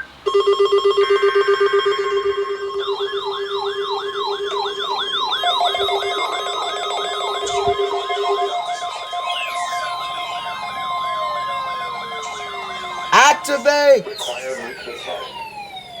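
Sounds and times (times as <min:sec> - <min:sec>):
pulsing alarm tone: 0:00.0 - 0:16.0
siren-like sweeping alarm: 0:00.0 - 0:16.0
steady low alarm tone: 0:00.0 - 0:16.0.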